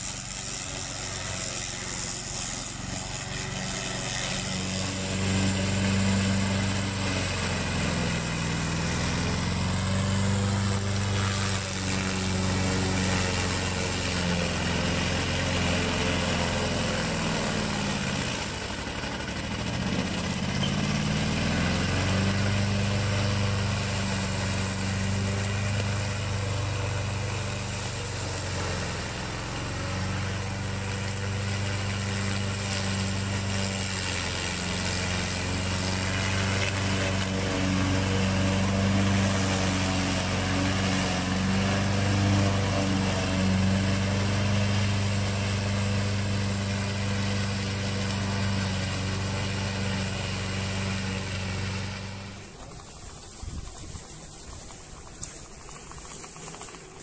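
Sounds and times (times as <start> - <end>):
mower engine running under load: 0.0 - 57.0.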